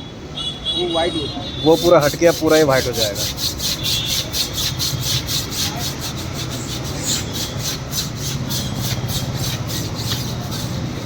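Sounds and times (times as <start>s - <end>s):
tyre being scrubbed: 1.6s - 11.0s.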